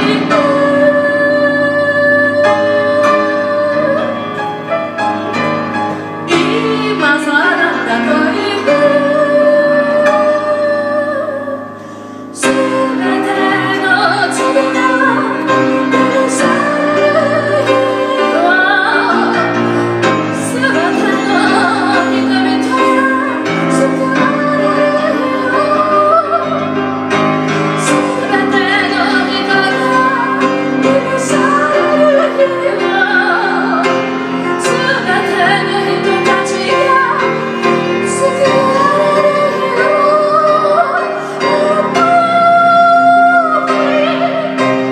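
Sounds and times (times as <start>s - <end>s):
woman singing: 0.0s - 4.6s, 6.3s - 26.8s, 27.7s - 44.9s
grand piano: 0.0s - 44.9s.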